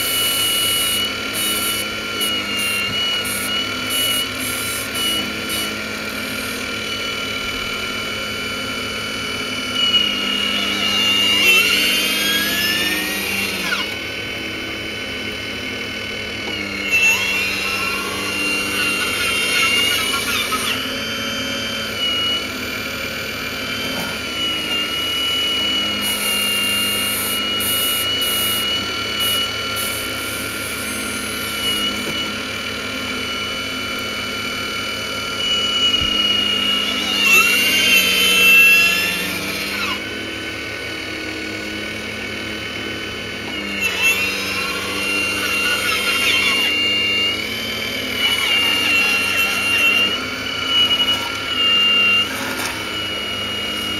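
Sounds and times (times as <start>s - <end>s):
model excavator motors whining: 0.0s - 53.9s.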